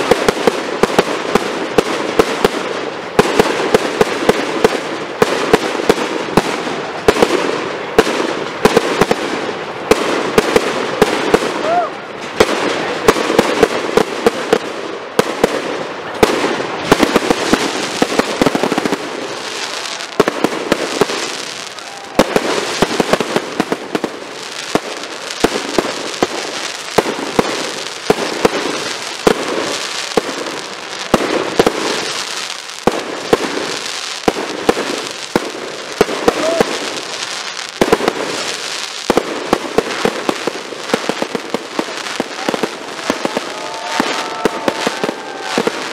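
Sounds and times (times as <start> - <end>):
firework crackling: 0.0 - 45.9.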